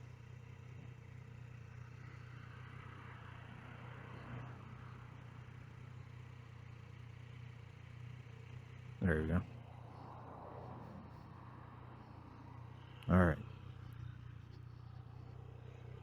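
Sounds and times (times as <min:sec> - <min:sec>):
motorcycle engine humming: 0:00.0 - 0:16.0.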